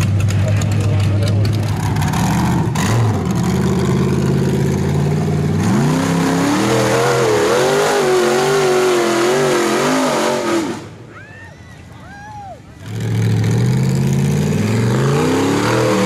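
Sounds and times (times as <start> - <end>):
engine revving: 0.0 - 11.0, 12.8 - 16.0.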